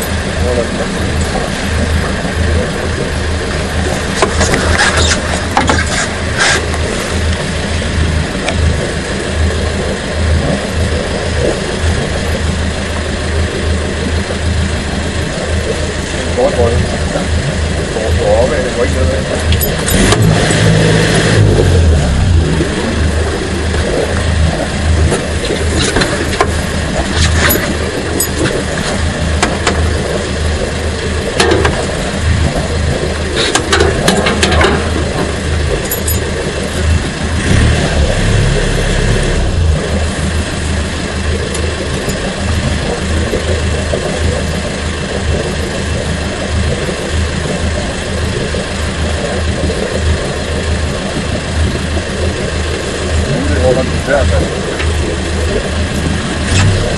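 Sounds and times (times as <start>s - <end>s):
boat engine running: 0.0s - 56.9s
constant rushing noise: 0.0s - 56.9s.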